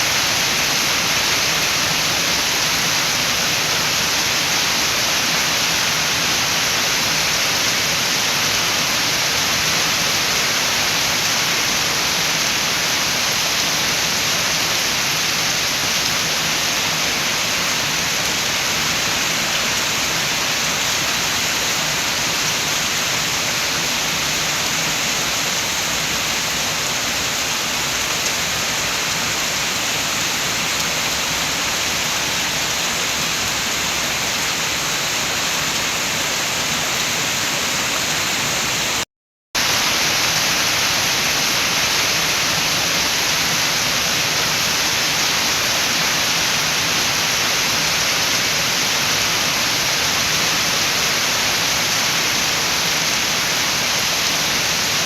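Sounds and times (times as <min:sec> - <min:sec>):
steady rain with wind: 0:00.0 - 0:39.0, 0:39.6 - 0:55.0.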